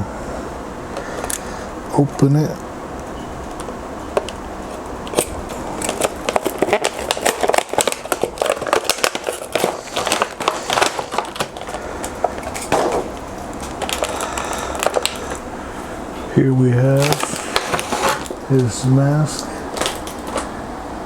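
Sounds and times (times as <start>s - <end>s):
packaging crackling and rustling: 3.5s - 20.7s.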